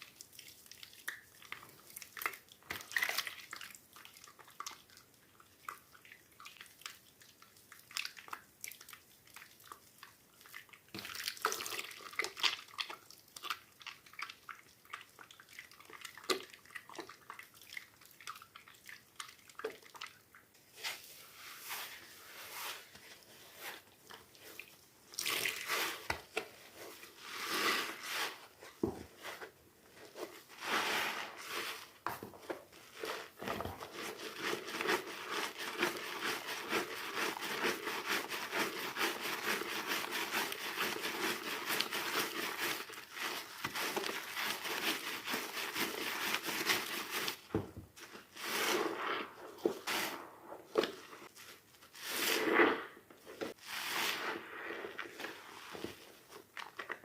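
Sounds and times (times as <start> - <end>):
wet soap squishing: 0.0 - 57.0.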